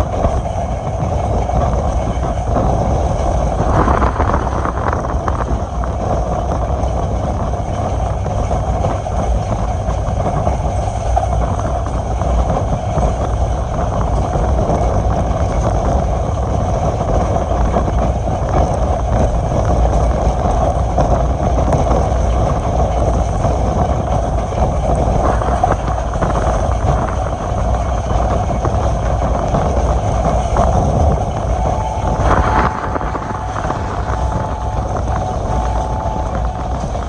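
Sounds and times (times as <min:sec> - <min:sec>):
train rumbling at speed: 0:00.0 - 0:37.0.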